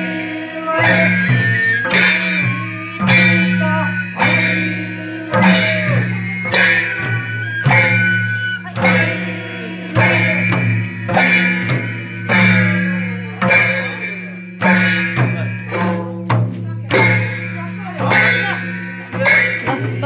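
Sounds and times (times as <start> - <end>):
barrel drums beating: 0.0 - 20.0
hand cymbals clashing: 0.0 - 20.0.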